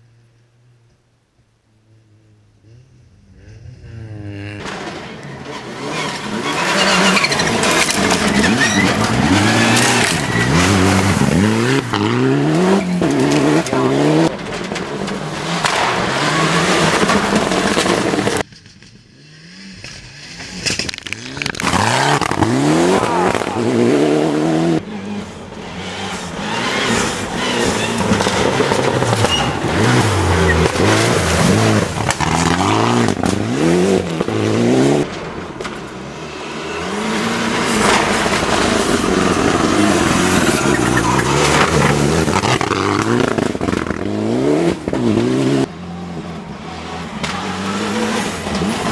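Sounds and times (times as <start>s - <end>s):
rally car engines revving: 1.8s - 48.9s.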